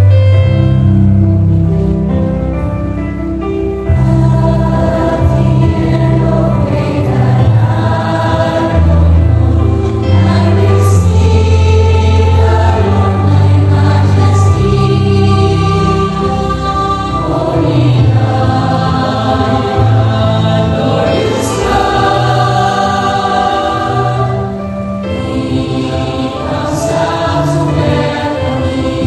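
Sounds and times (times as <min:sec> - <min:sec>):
mixed choir singing: 0:03.9 - 0:29.0.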